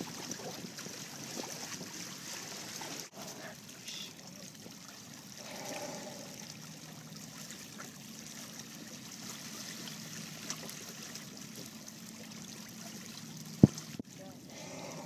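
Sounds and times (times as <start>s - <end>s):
water trickling along boat hulls: 0.0s - 15.0s.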